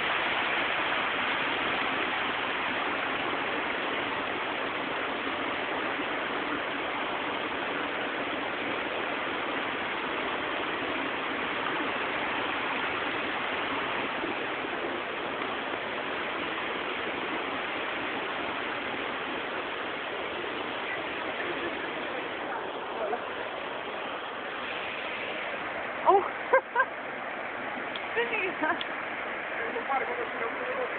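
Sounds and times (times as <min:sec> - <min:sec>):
river rushing over stones: 0:00.0 - 0:30.9.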